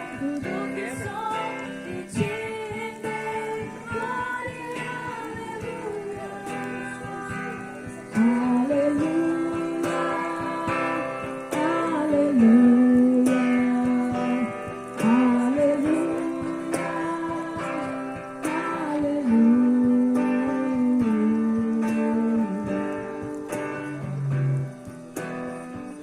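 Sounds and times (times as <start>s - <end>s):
strummed acoustic guitar: 0.0s - 26.0s.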